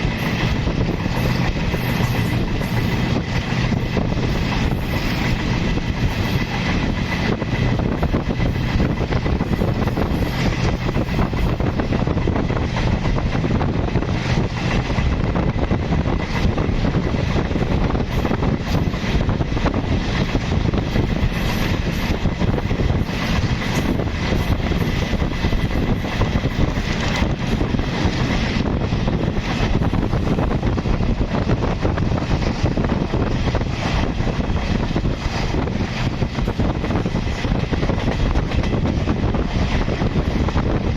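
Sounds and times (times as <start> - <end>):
train wheels rumbling on rail: 0.0 - 40.9
wind buffeting microphone: 0.0 - 40.9.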